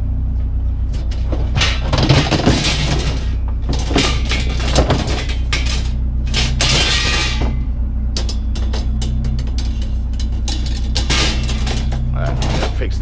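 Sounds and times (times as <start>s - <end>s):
truck engine idling: 0.0s - 13.0s
metal shelf clattering and scraping: 0.8s - 13.0s.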